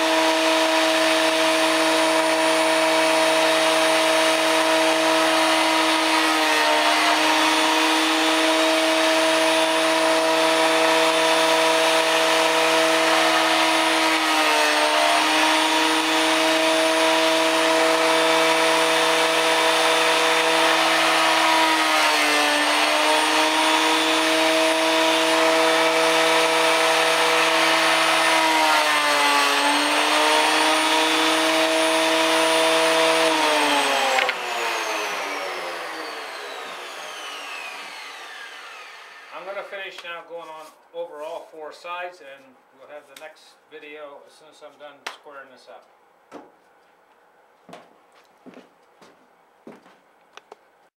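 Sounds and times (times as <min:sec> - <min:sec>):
thickness planer whining: 0:00.0 - 0:41.3.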